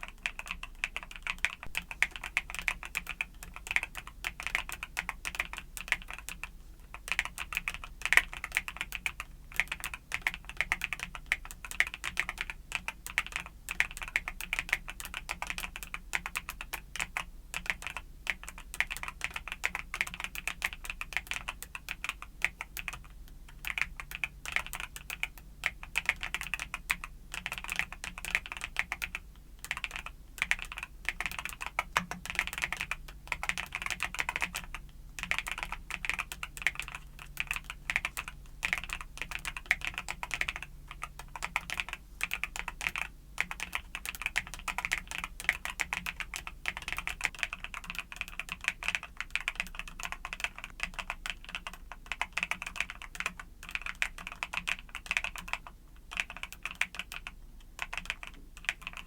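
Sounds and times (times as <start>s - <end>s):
typing on mechanical keyboard: 0.0s - 59.0s.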